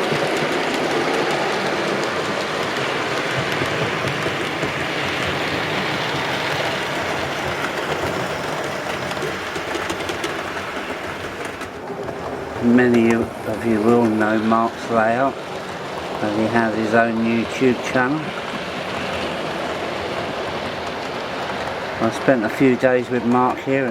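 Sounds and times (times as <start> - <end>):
faint clicks of wheels: 0.0 - 23.9
model train running on track: 0.0 - 23.9.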